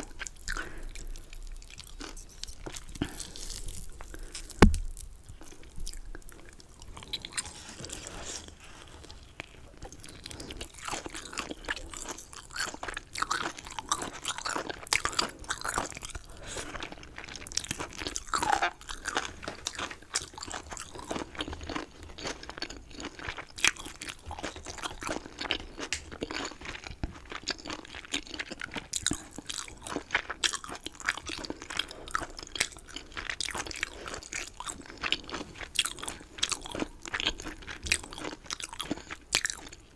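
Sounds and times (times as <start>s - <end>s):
crunchy chewing: 6.7s - 39.9s.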